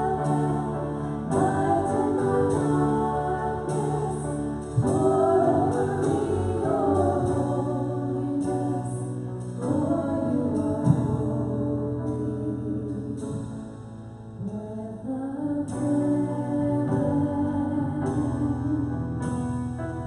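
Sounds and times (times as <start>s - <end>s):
women singing worship song: 0.0s - 13.5s, 14.4s - 18.9s
drums: 0.0s - 14.8s, 15.6s - 20.0s
bass guitar: 0.0s - 20.0s
piano: 0.0s - 20.0s.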